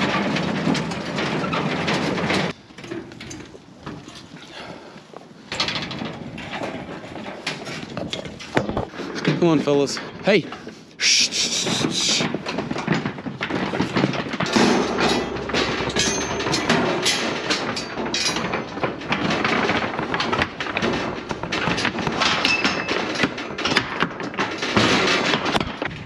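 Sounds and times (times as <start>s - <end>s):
hooves on metal deck: 0.0s - 26.0s
rattling metal rails and gates: 0.0s - 26.0s.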